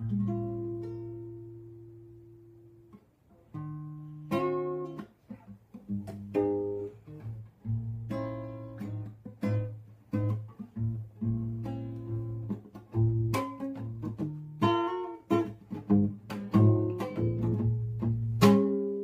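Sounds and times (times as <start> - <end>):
nylon-string acoustic guitar: 0.0 - 19.0.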